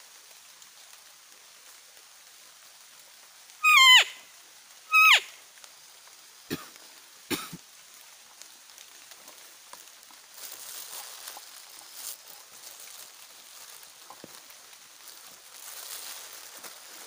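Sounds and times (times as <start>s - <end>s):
rustling of leaves and clothing: 0.0s - 17.0s.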